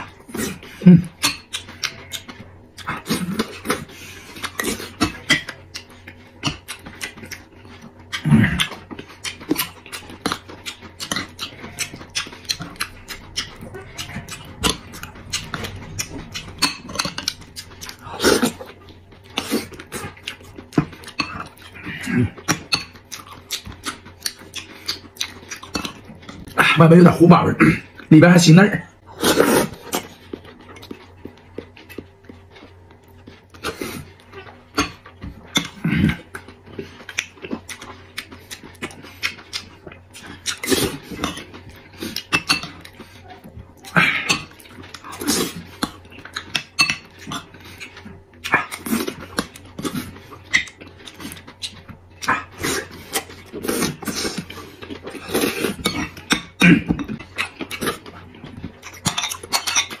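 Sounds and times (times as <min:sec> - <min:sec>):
wet chewing and slurping: 0:00.0 - 0:26.9, 0:29.0 - 1:00.0.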